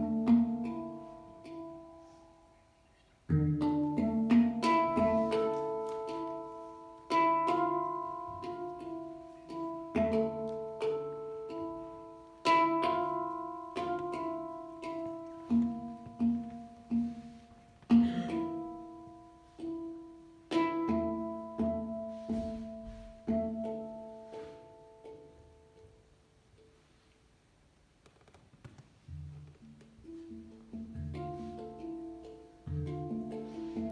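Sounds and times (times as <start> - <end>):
handpan notes: 0.0 - 27.4, 29.0 - 33.9.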